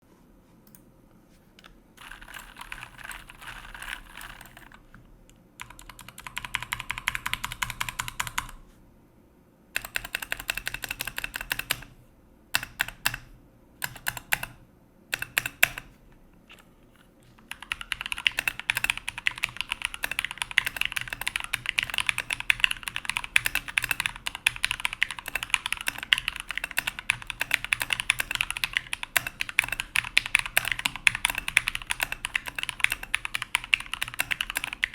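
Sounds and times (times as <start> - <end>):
mechanical keyboard typing: 2.0 - 4.8, 5.6 - 8.6, 9.8 - 11.9, 12.6 - 14.6, 15.2 - 15.9, 17.4 - 34.9.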